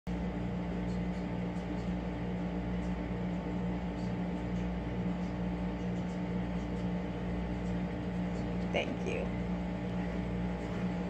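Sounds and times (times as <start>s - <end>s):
low machine hum with tones: 0.1s - 11.0s.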